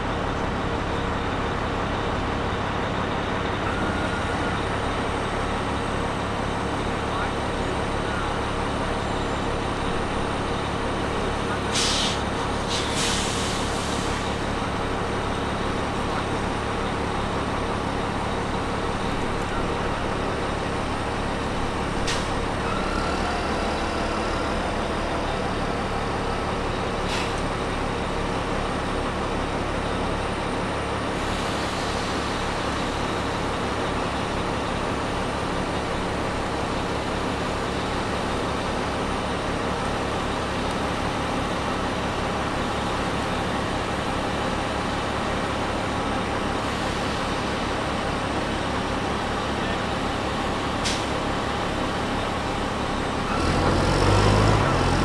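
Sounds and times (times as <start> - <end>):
diesel engine throbbing: 0.0 - 55.0.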